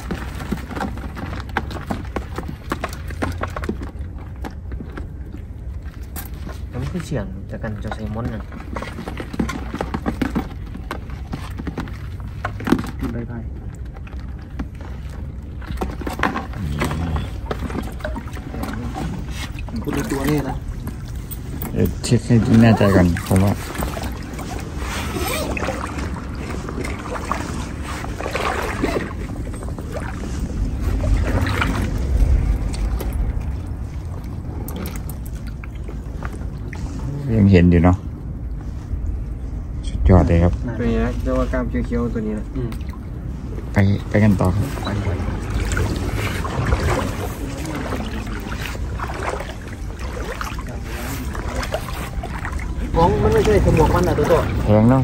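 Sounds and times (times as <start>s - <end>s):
water sloshing: 0.0s - 55.0s
wind rumble on microphone: 0.0s - 55.0s.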